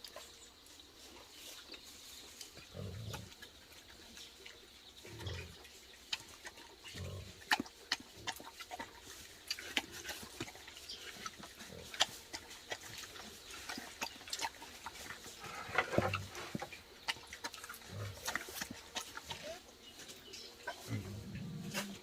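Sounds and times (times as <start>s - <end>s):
wild boars grunting: 2.6s - 4.4s, 5.0s - 22.0s.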